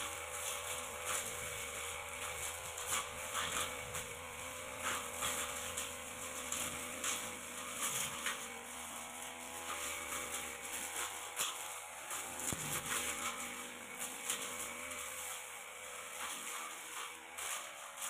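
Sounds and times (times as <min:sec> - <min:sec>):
blade swishing through grass: 0:00.0 - 0:18.0
brush cutter engine running: 0:00.0 - 0:18.0.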